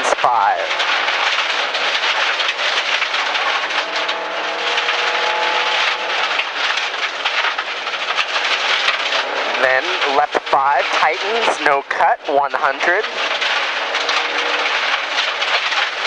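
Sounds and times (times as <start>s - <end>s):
rally car engine: 0.0s - 16.0s.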